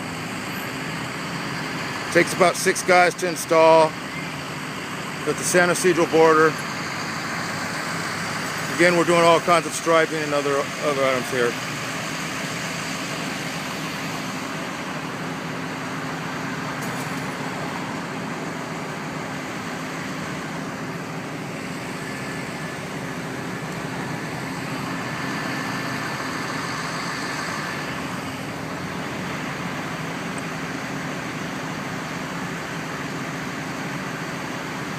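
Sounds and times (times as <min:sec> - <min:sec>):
vehicle engine noise: 0:00.0 - 0:34.9.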